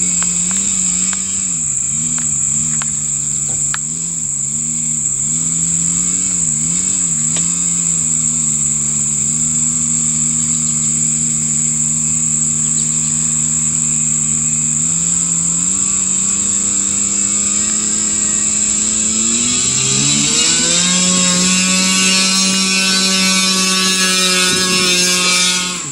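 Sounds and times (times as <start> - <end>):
model airplane engine and propeller: 0.0 - 25.9
steady high whine: 0.0 - 25.9.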